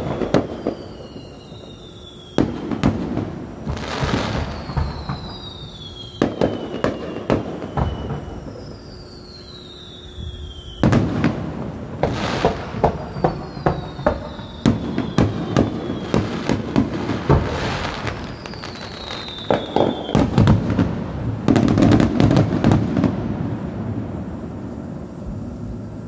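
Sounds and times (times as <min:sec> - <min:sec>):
firework shells booming: 0:00.0 - 0:09.7, 0:10.6 - 0:24.7
dense firework crackling: 0:00.0 - 0:26.0
descending firework whistles: 0:00.0 - 0:26.0.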